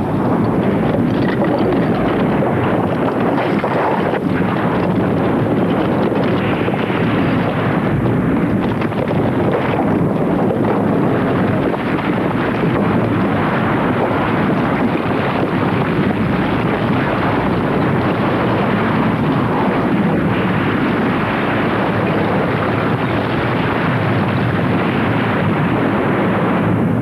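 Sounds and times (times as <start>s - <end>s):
volcanic eruption roaring: 0.0s - 27.0s.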